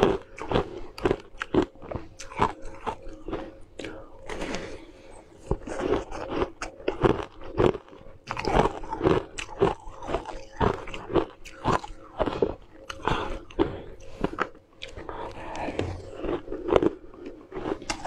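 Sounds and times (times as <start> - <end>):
crunching frozen cubes: 0.0 - 18.0.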